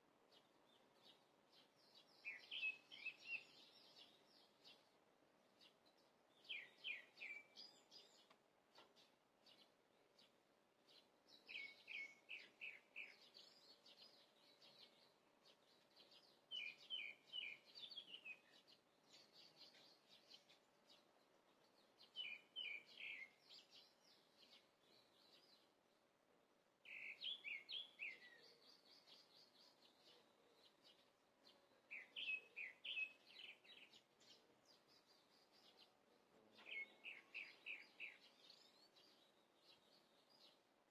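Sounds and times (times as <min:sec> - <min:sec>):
small bird chirping: 0:00.2 - 0:26.0, 0:26.8 - 0:40.9.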